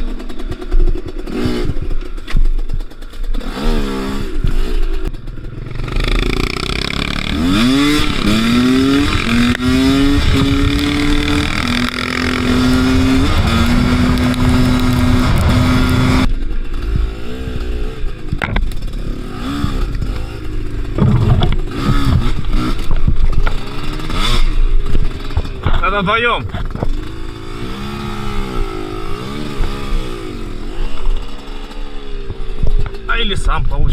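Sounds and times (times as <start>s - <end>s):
motorcycle engine accelerating: 0.0s - 33.9s.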